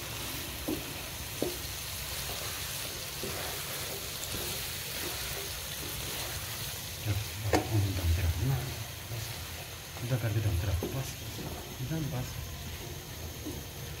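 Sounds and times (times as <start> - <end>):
okra sizzling in a wok: 0.0 - 14.0
wooden spatula stirring: 0.0 - 14.0.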